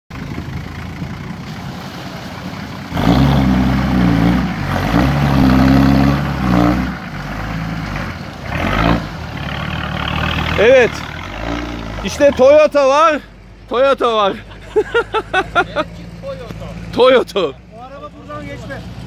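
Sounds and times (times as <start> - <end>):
truck engine revving in mud: 0.2 - 19.0.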